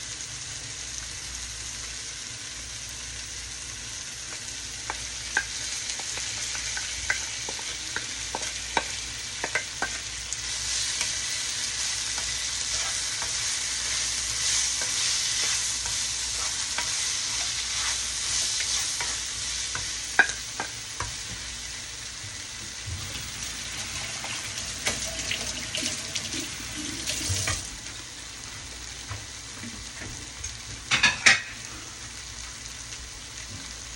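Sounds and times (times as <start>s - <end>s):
food sizzling in a hot pan: 0.0s - 33.9s.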